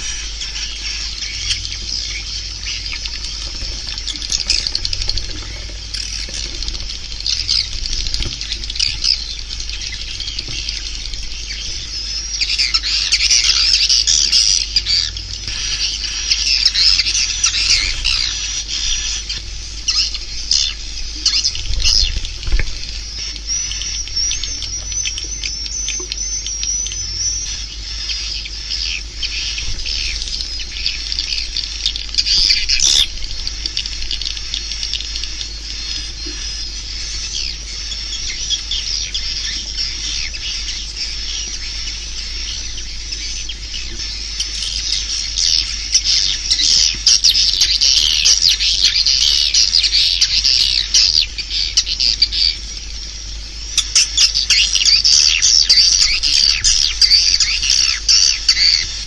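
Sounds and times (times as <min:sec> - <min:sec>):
faint low hum: 0:00.0 - 0:59.0
swiftlets twittering chirps: 0:00.0 - 0:59.0.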